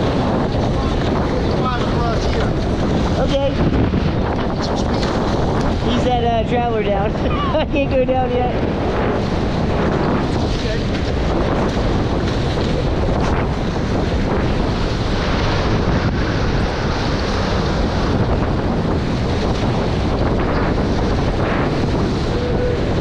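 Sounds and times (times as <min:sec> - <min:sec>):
water splashing along hulls: 0:00.0 - 0:23.0
wind buffeting microphone: 0:00.0 - 0:23.0.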